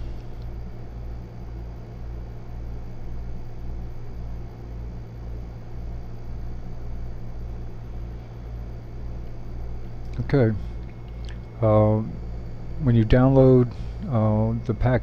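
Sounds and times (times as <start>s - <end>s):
low throbbing hum: 0.0s - 15.0s.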